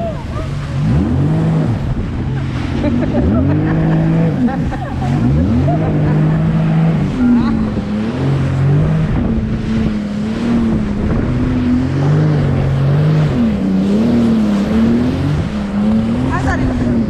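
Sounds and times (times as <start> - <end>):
jet ski engine running: 0.0 - 17.0
rush of wind and spray: 0.0 - 17.0.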